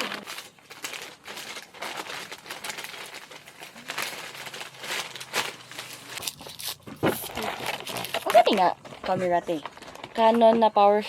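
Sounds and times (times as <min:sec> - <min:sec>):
rustling and crinkling handling: 0:00.0 - 0:11.0.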